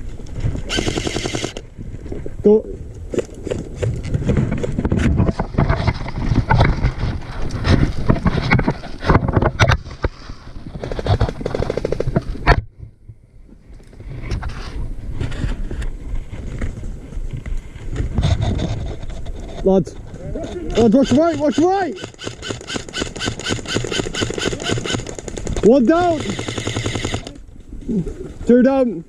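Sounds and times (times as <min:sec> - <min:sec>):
wind and handling rumble: 0:00.0 - 0:29.0.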